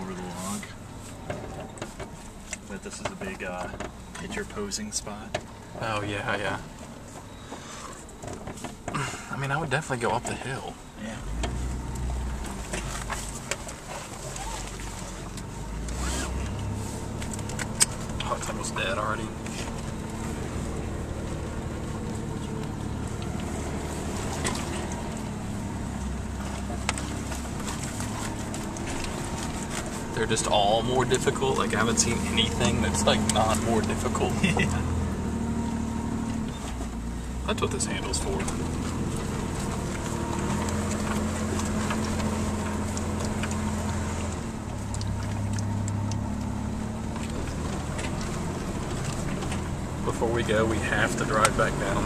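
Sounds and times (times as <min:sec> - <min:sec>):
engine running at low revs: 0:00.0 - 0:52.0.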